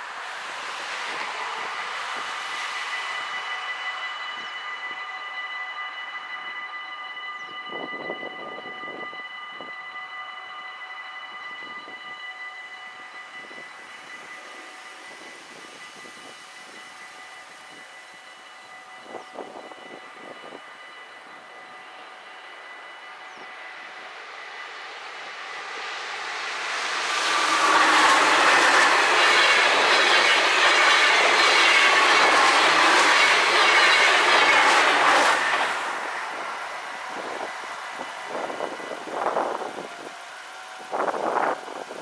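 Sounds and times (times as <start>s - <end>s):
electric train passing: 0.0s - 42.0s.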